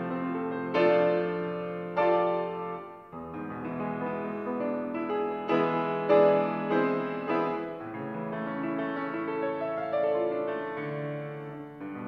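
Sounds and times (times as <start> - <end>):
grand piano chords: 0.0 - 12.0.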